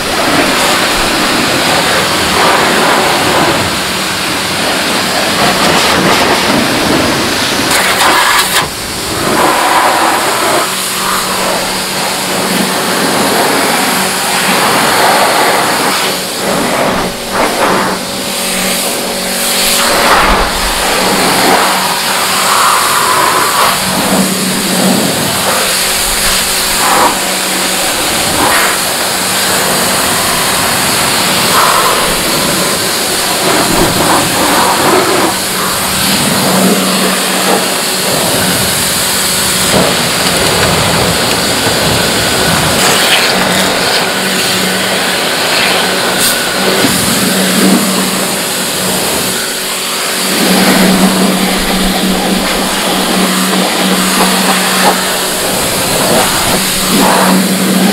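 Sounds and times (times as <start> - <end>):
pressure washer spray hissing: 0.0 - 57.9
washer motor humming: 0.0 - 57.9.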